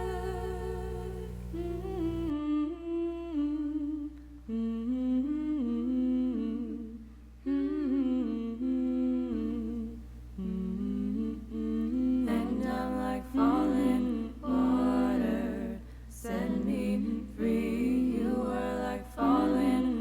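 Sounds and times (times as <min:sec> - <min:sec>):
voices humming a slow melody: 0:00.0 - 0:20.0.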